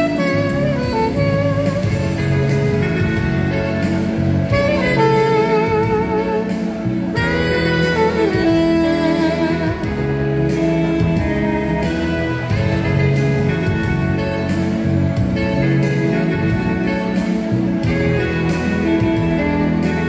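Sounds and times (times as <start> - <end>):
alto saxophone slow melody: 0.0 - 20.0.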